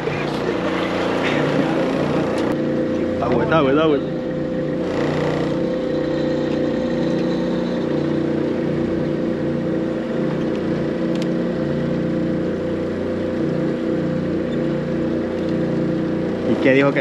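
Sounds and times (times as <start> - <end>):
small boat engine humming: 0.0 - 17.0.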